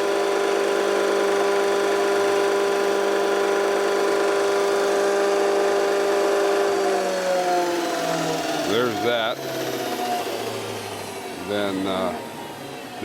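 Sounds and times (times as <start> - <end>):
grinder motor humming with whine: 0.0 - 13.0.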